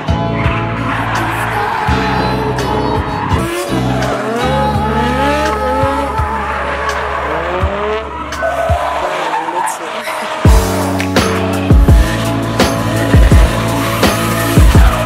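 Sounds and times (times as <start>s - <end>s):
music with heavy bass beat: 0.0s - 9.1s, 10.4s - 15.0s
car engine revving: 0.0s - 15.0s
tyres squealing: 0.2s - 11.1s, 12.0s - 15.0s.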